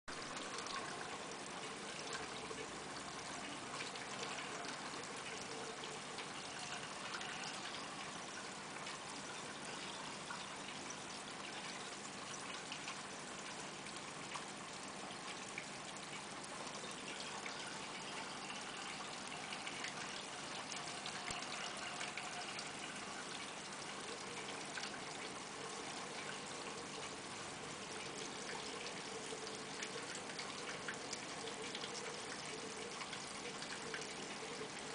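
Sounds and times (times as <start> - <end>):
aquarium water trickling: 0.1 - 34.9.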